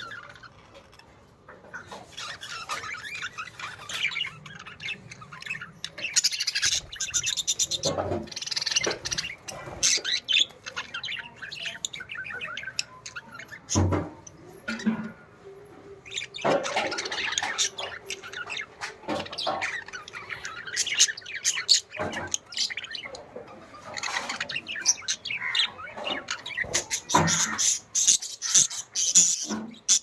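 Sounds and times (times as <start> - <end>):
budgerigars chattering: 0.0 - 15.3, 15.9 - 30.0.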